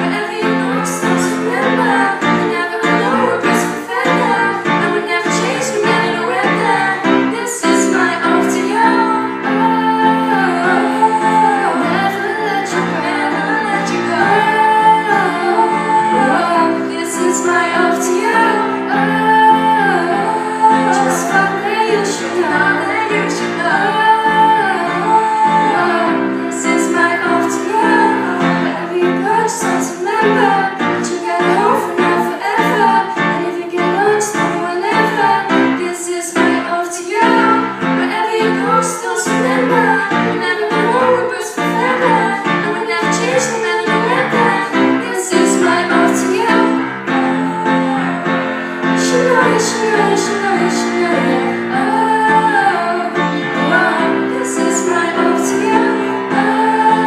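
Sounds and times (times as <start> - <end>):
woman singing pop song: 0.0 - 57.0.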